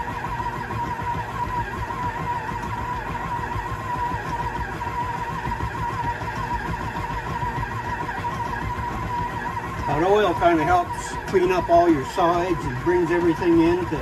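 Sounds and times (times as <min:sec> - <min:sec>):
electric mixer whining: 0:00.0 - 0:14.0.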